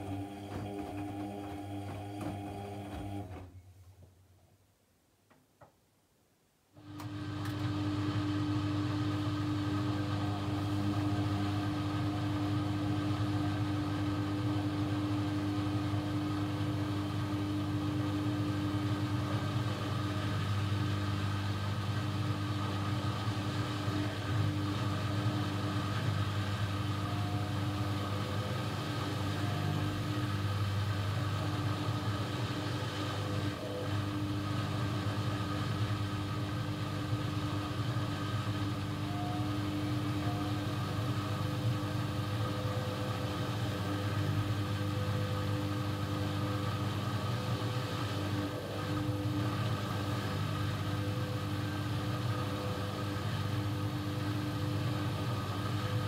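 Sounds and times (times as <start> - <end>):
washing machine humming and rushing: 0.0 - 3.6, 6.8 - 56.0.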